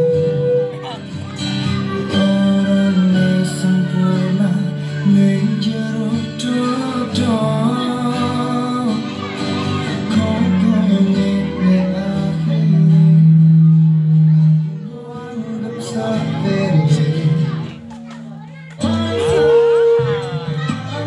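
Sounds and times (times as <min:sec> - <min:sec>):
music with singing: 0:00.0 - 0:21.0.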